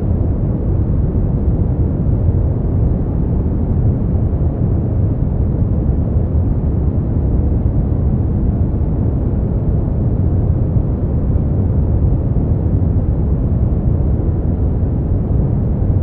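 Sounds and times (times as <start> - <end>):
deep rumbling brown noise: 0.0 - 16.0.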